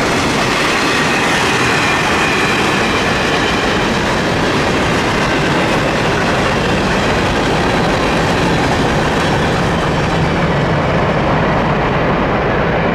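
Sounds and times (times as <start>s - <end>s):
freight train rolling past: 0.0s - 12.9s.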